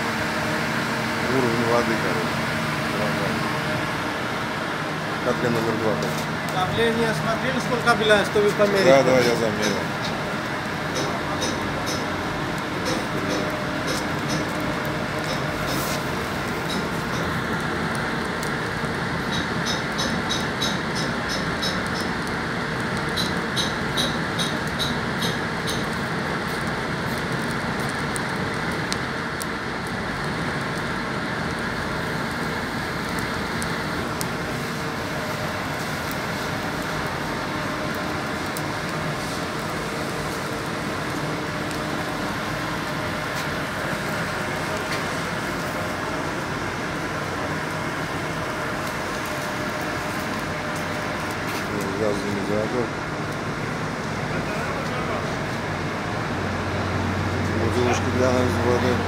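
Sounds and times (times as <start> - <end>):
fire roaring in firebox: 0.0 - 59.0
machinery hum: 0.0 - 59.0.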